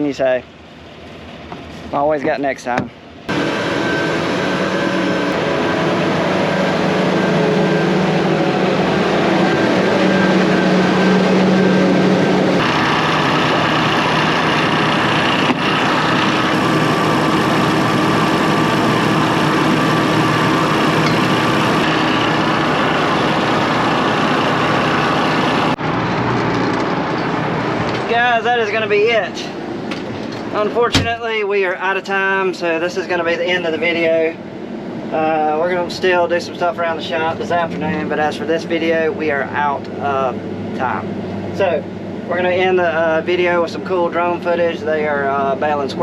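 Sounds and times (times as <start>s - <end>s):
vehicle engine running: 0.1s - 31.2s, 33.8s - 46.0s.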